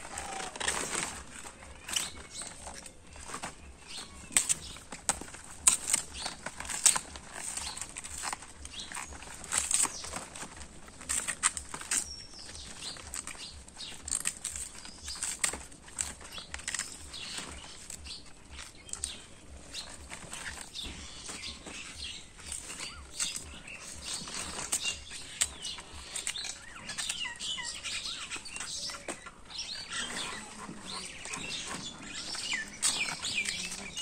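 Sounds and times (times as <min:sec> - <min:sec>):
plant stems snapping and rustling: 0:00.0 - 0:34.0.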